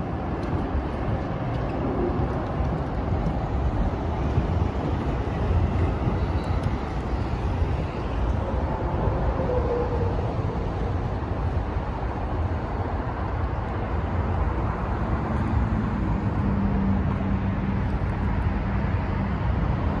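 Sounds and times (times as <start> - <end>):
road traffic rumble: 0.0 - 20.0
vehicle engine hum: 0.0 - 20.0.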